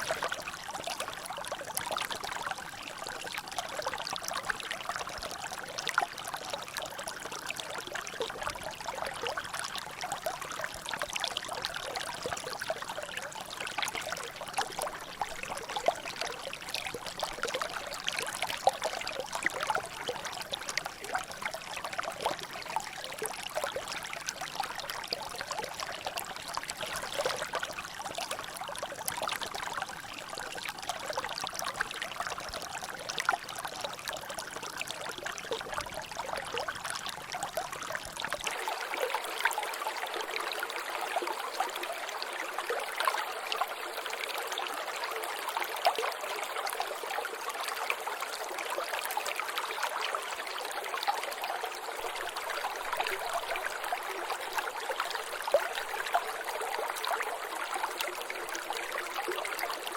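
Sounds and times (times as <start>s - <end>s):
water trickling and dripping: 0.0s - 59.9s.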